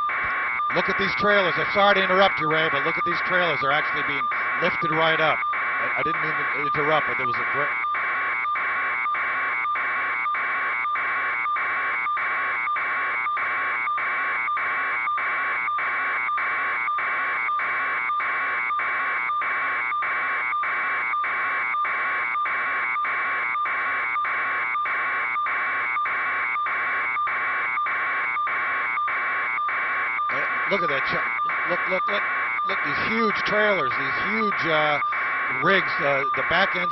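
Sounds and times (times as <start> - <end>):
pulsing alarm buzzer: 0.0 - 36.9.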